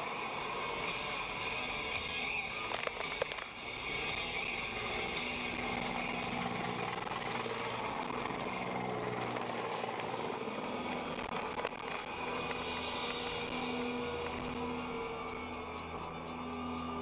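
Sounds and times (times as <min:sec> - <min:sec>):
road noise: 0:00.0 - 0:17.0
vehicle engine: 0:00.0 - 0:17.0.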